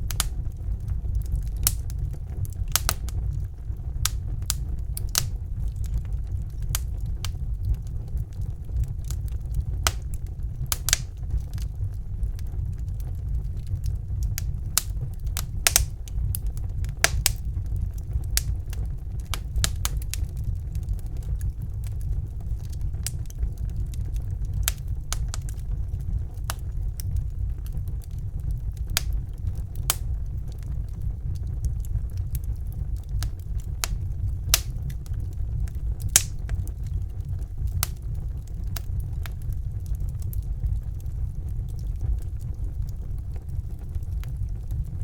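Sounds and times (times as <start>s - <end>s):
low rumble of flame: 0.0s - 45.0s
wood fire crackling: 0.0s - 45.0s.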